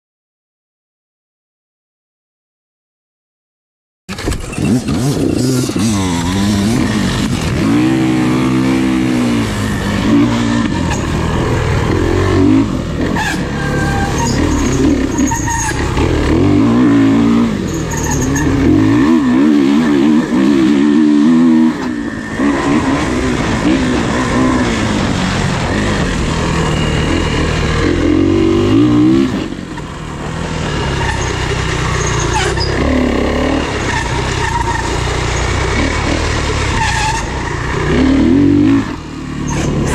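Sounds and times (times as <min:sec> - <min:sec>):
racing engines revving: 0:04.4 - 0:39.9.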